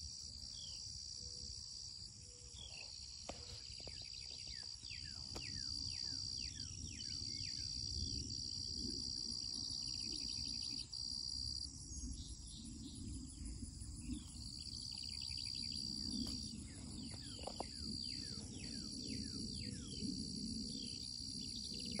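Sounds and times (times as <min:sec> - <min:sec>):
insects buzzing: 0:00.2 - 0:22.0.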